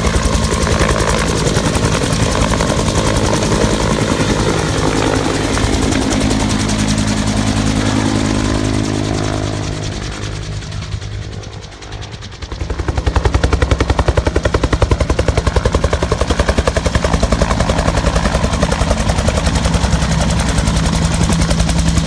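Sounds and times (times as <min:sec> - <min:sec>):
helicopter engine: 0:00.0 - 0:22.0
helicopter rotor beating: 0:00.0 - 0:22.0.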